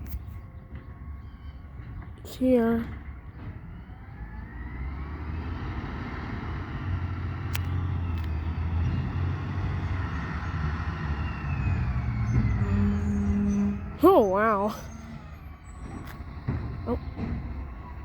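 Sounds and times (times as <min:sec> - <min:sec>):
garbage truck engine approaching: 0:00.0 - 0:18.0.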